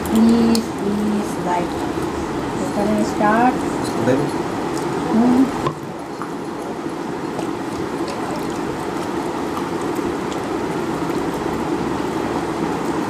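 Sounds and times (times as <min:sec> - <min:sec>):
steady rushing background noise: 0:00.0 - 0:13.0.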